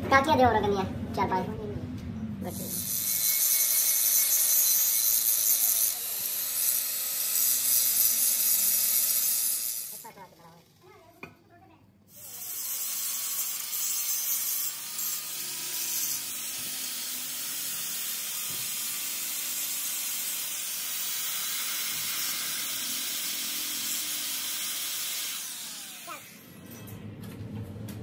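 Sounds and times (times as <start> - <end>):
angle grinder grinding metal: 2.5 - 10.8, 12.1 - 26.8.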